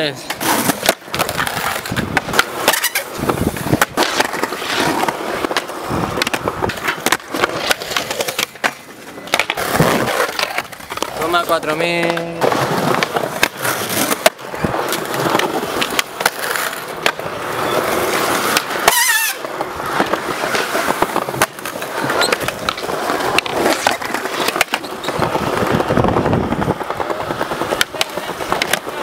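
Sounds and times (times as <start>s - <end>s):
skateboard wheels rolling on concrete: 0.0s - 29.0s
skateboards clacking: 0.0s - 29.0s.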